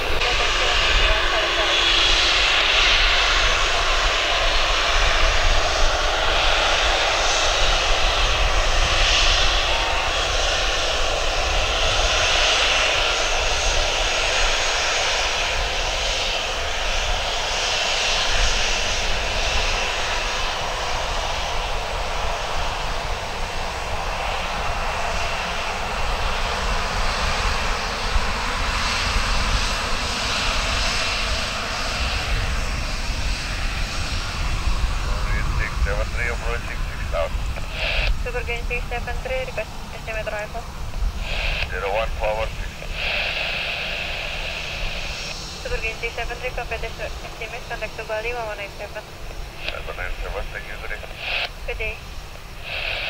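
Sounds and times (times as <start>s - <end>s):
jet engines running: 0.0s - 53.0s.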